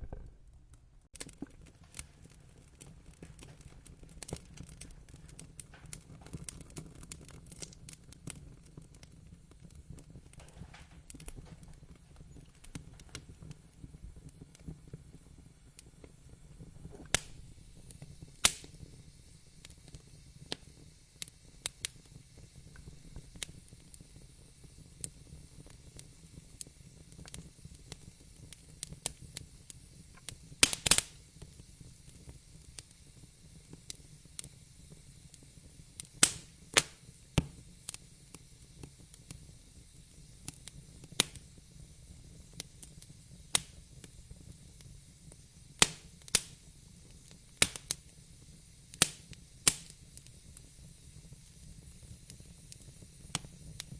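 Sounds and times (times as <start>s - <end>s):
fire crackles and pops: 0.0s - 53.9s
low rumble of flames: 0.0s - 53.9s.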